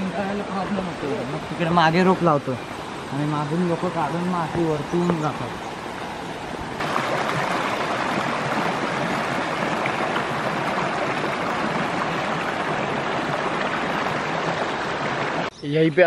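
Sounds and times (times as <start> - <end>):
stream water rushing over stones: 0.0 - 15.5.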